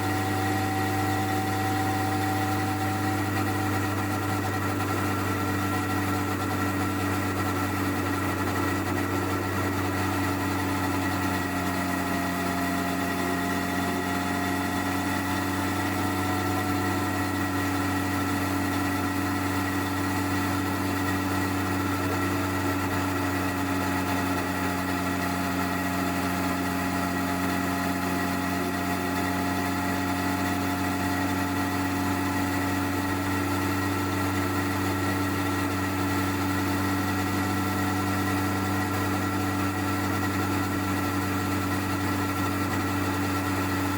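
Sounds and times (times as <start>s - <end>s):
motorcycle engine running steadily: 0.0s - 43.9s.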